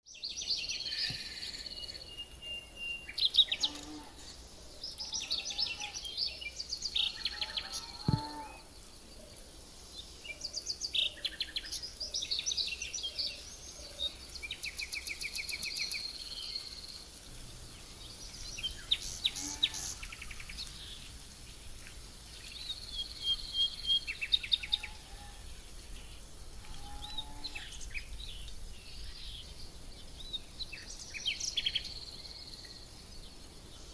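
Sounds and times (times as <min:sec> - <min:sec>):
songbirds chirping and singing: 0:00.1 - 0:33.9
high hum of insects: 0:00.2 - 0:33.9.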